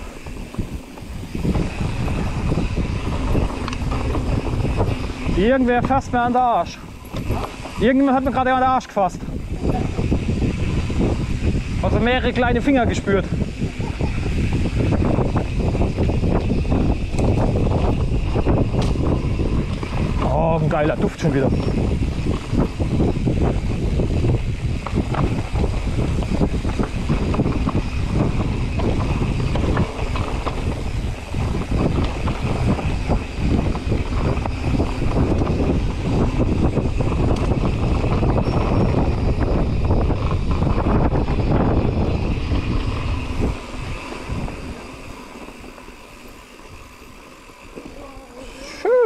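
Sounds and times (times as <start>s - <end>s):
bike rattling and knocking: 0.0s - 48.9s
bike tyres rumbling over dirt: 0.0s - 49.0s.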